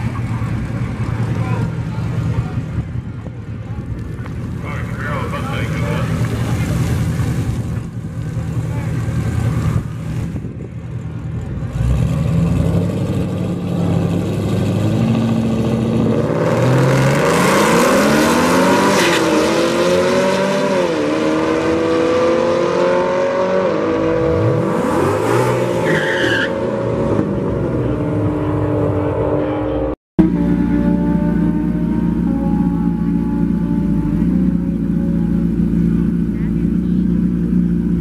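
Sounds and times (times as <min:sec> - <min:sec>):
drag car engines revving: 0:00.0 - 0:38.0.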